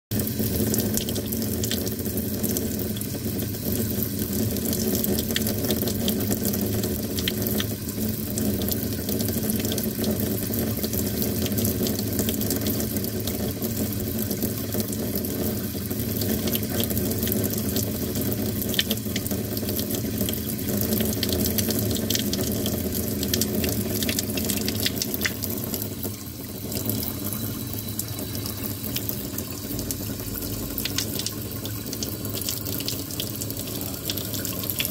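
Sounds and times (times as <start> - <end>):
tap water pouring into sink: 0.1 - 34.9.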